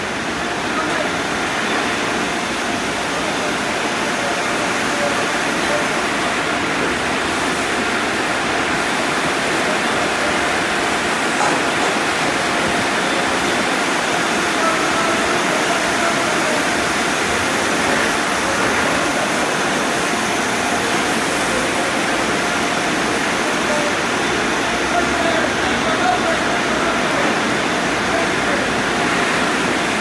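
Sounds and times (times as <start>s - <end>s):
car wash water rushing hiss: 0.0s - 30.0s.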